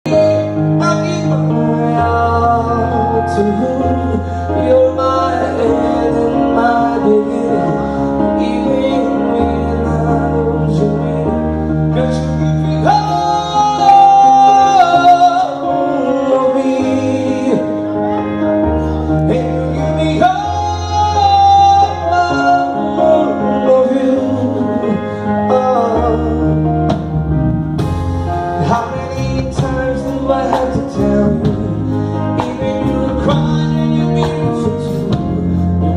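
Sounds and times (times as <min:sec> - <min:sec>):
man singing a ballad: 0:00.0 - 0:27.1, 0:28.2 - 0:35.9
instrumental accompaniment: 0:00.0 - 0:35.9.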